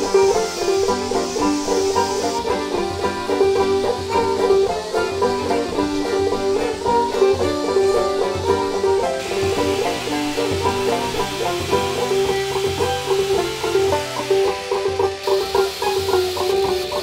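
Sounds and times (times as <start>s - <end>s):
bluegrass music with picked banjo: 0.0s - 17.0s.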